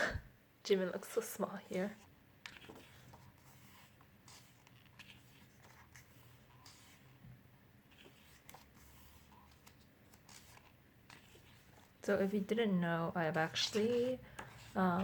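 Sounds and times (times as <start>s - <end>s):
paper pages rustling: 1.7s - 12.5s, 13.2s - 15.0s.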